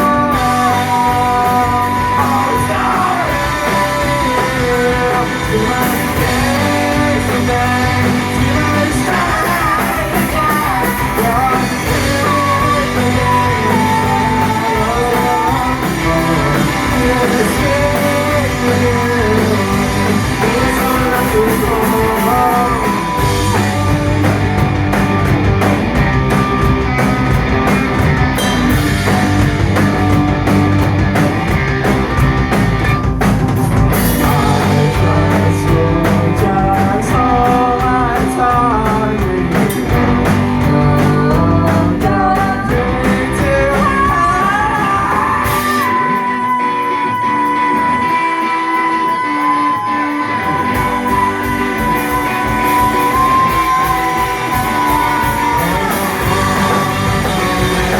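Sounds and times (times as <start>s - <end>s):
person singing: 0.0s - 25.3s, 33.6s - 57.9s
rock band playing live: 0.0s - 57.9s.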